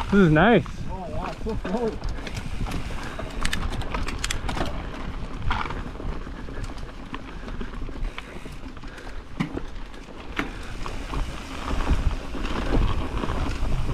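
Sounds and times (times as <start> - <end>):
bike clicks and rattles: 0.0 - 13.9
tyres rumbling on dirt: 0.0 - 13.9.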